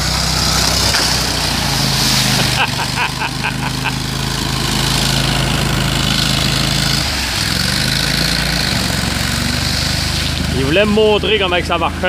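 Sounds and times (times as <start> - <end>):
vehicle engine running: 0.0 - 12.0
wheels splashing through water: 0.0 - 12.0.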